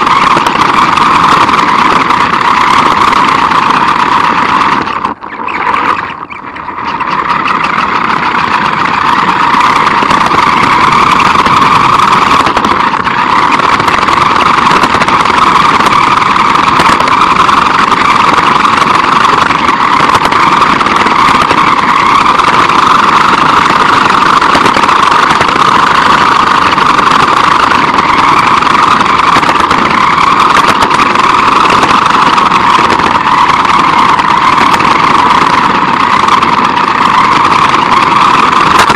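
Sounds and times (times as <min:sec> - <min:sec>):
rc car motor whirring: 0:00.0 - 0:38.9.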